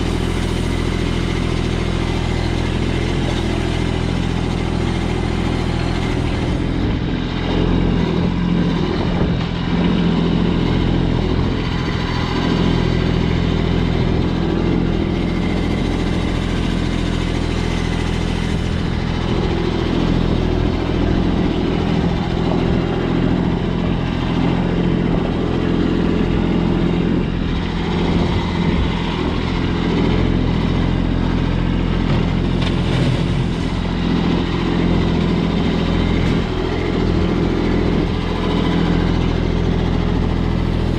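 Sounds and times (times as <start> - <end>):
vehicle engine droning steadily: 0.0 - 40.9.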